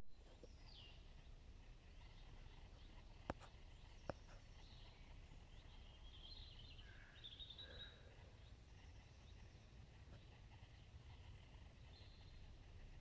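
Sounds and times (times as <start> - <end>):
songbirds chirping: 0.1 - 13.0.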